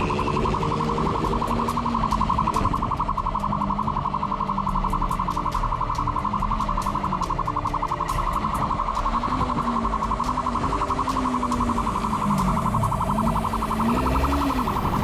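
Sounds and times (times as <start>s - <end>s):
police siren warbling: 0.0s - 15.0s.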